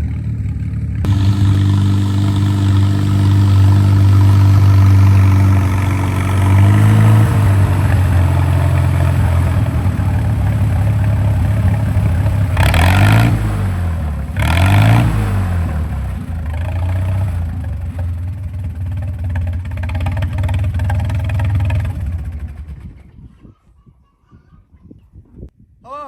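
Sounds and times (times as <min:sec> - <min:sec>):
tractor engine revving: 0:00.2 - 0:23.0.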